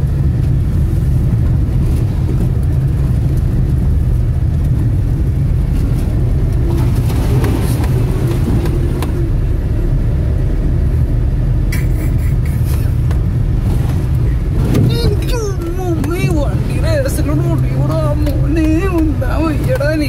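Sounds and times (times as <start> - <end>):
car knocks and rattles: 0.0 - 10.2, 12.3 - 20.0
engine and tyres rumbling: 0.0 - 20.0.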